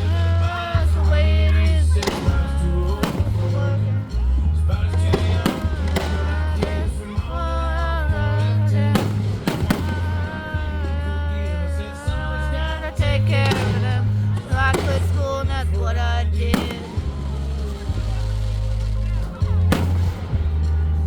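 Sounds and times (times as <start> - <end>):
fireworks bangs: 0.0 - 12.2, 12.9 - 21.0
music with heavy bass: 0.0 - 21.0
person singing: 0.0 - 21.0.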